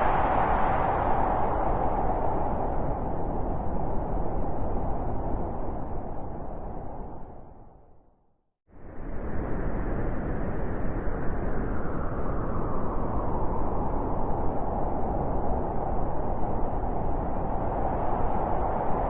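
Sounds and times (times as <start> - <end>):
gusting wind: 0.0 - 8.0, 8.7 - 19.0.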